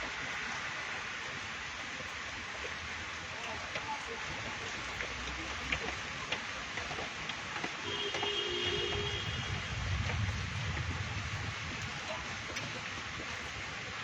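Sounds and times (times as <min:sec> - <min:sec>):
passing traffic rumble: 0:00.0 - 0:14.0
rain on a street: 0:00.0 - 0:14.0
raindrops ticking: 0:00.0 - 0:14.0.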